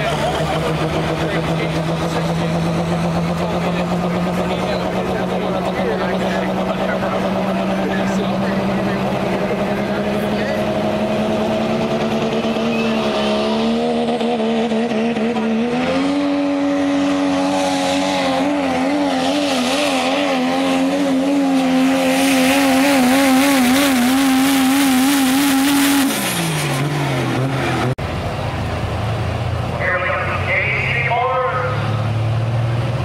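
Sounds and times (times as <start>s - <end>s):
diesel truck engine revving: 0.0s - 33.0s.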